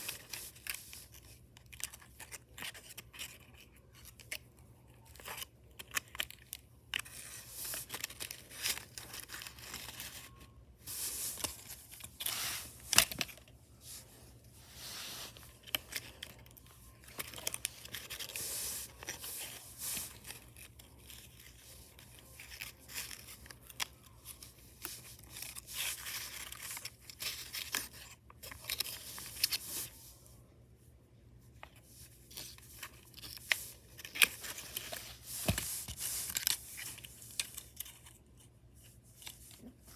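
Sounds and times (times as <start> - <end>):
scraping and crinkling: 0.0 - 30.3, 31.4 - 39.9.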